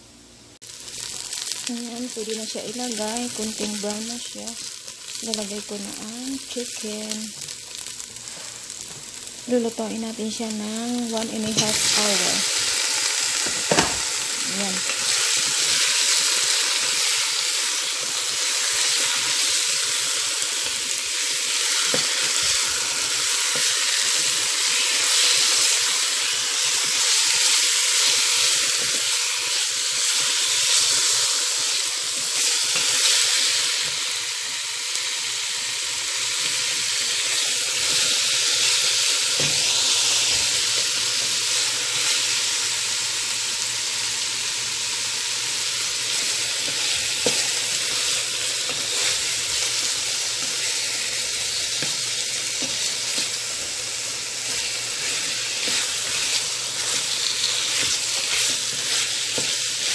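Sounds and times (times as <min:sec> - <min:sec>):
chicken sizzling in a pot: 0:00.6 - 0:59.9.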